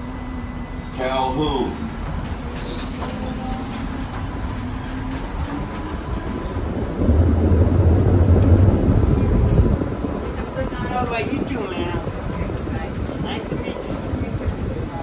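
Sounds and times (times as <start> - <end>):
streetcar wheels rumbling on rail: 0.0 - 15.0.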